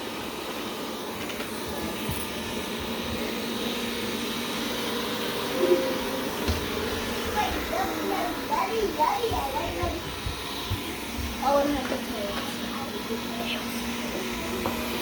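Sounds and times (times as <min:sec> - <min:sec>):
robot vacuum whirring: 0:00.2 - 0:15.0.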